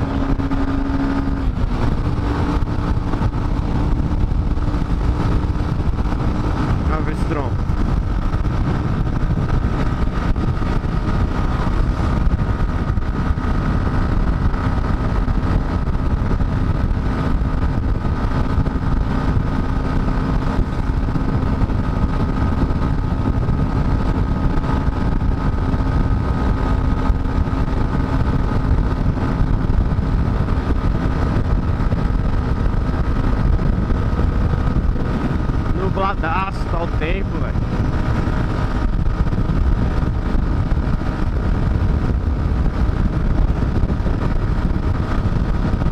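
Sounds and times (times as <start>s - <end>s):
motorcycle engine cruising: 0.0s - 45.9s
wind rushing on microphone: 0.0s - 45.9s.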